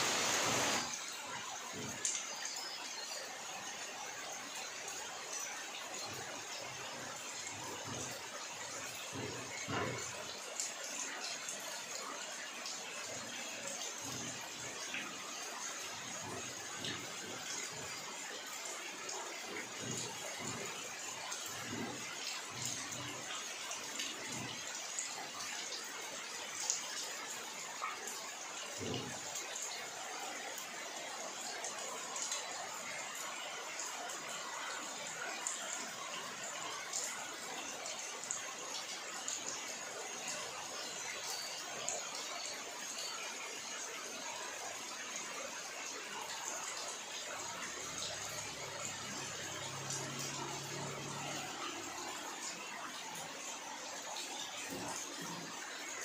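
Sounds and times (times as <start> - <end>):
rain hissing on water: 0.0 - 56.0.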